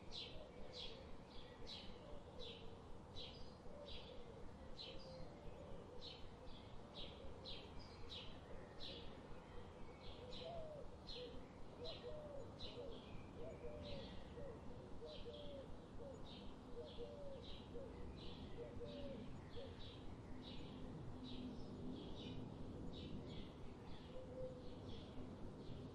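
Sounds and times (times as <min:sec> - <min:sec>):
faint background hiss: 0:00.0 - 0:25.9.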